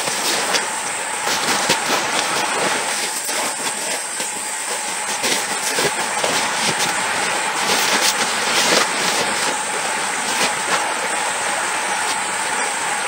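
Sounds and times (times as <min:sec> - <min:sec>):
rustles on sleeping mat: 0:00.0 - 0:12.2
forest hiss: 0:00.0 - 0:13.0
high whine: 0:00.0 - 0:13.0.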